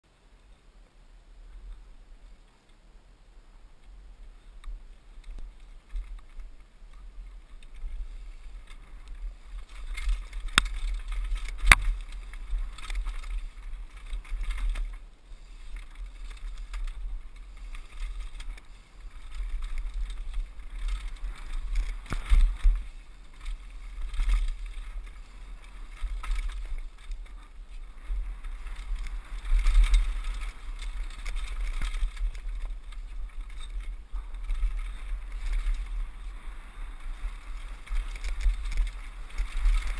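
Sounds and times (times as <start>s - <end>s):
bike tyre and drivetrain rattle: 3.7s - 39.9s.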